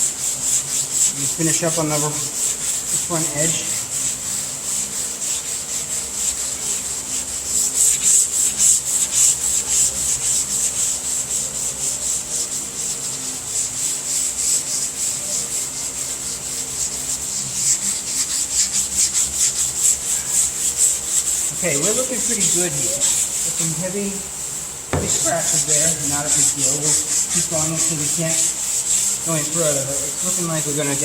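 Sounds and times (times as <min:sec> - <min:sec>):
sandpaper rasping on sanding block: 0:00.0 - 0:31.0.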